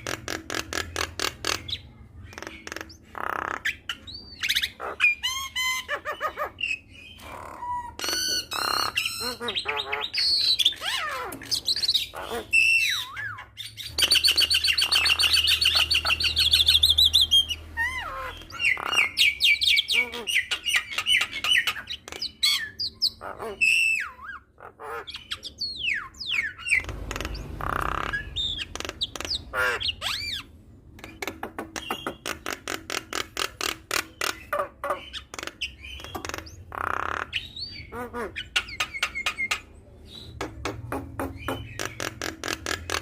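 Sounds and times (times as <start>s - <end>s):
bird trill: 0.0s - 40.5s
harsh bird chattering: 0.0s - 43.0s.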